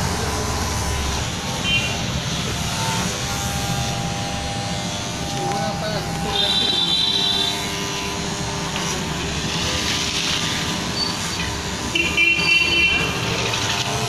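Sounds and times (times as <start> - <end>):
electric hair clipper humming: 0.0 - 14.0.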